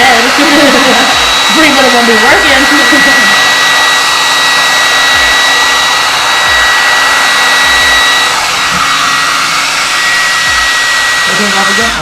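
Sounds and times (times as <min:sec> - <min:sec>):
blow dryer air rushing: 0:00.0 - 0:12.0.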